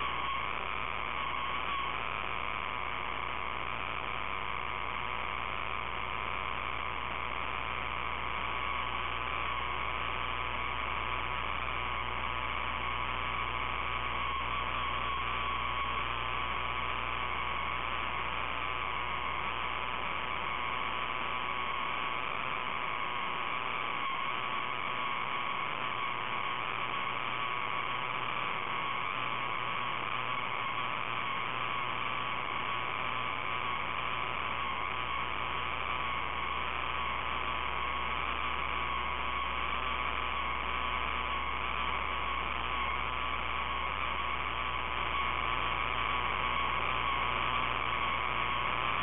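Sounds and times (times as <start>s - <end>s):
faint wavering whine: 0.0s - 49.0s
steady hum and hiss: 0.0s - 49.0s.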